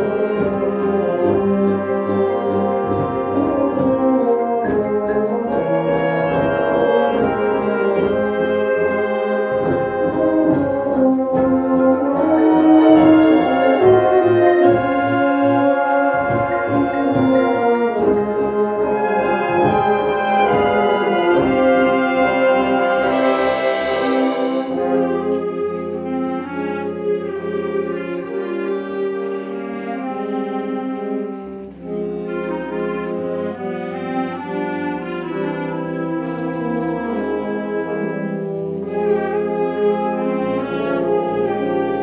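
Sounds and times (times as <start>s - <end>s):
wind band playing chords: 0.0s - 42.0s.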